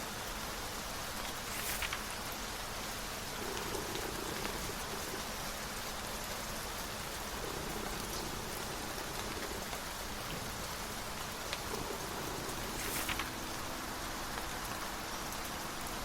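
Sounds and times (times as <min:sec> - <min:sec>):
steady rain hiss: 0:00.0 - 0:16.0
rain drop ticks: 0:00.1 - 0:16.0.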